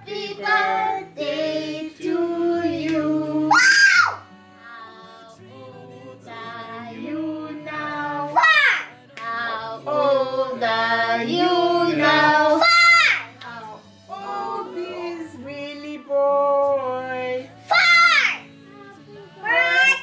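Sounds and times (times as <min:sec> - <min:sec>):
people singing: 0:00.0 - 0:17.7, 0:18.4 - 0:20.0
background music: 0:00.0 - 0:20.0.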